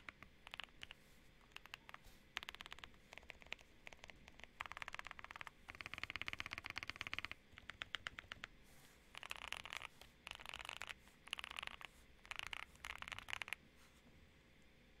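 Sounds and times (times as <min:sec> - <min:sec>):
mechanical keyboard typing: 0:00.0 - 0:08.5, 0:09.2 - 0:13.6.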